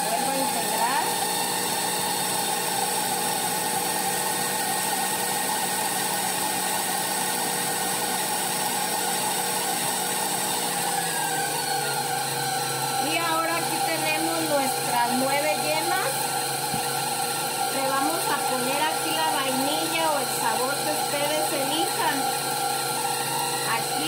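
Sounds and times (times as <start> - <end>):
stand mixer whisking at high speed: 0.0 - 24.0.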